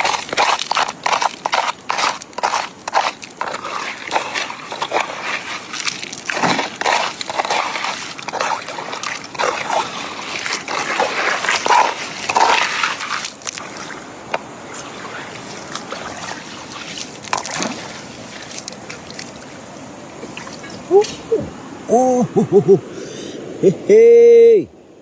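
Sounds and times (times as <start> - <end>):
water sloshing and splashing: 0.0 - 21.9.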